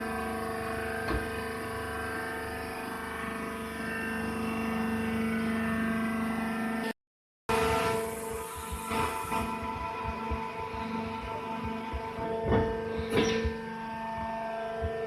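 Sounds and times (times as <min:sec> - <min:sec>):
baler machine hum with whine: 0:00.0 - 0:06.9, 0:07.5 - 0:15.0.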